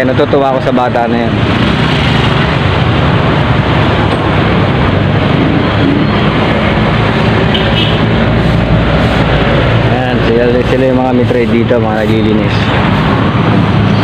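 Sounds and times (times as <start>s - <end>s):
wind rush on microphone: 1.3s - 14.0s.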